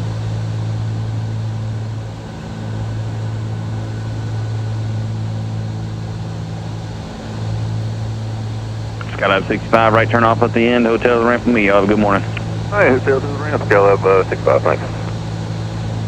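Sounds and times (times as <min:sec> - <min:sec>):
aircraft propeller engines droning: 0:00.0 - 0:16.0.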